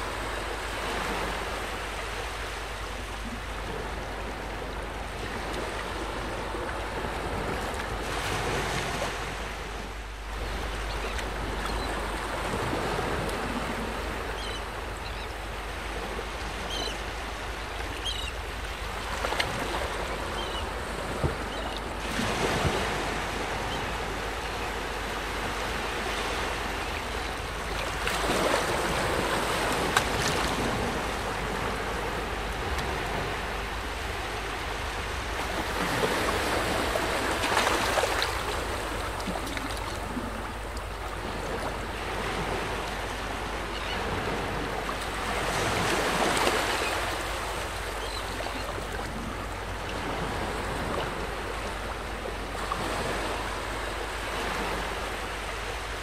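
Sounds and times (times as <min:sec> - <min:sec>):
waves washing ashore: 0:00.0 - 0:56.0.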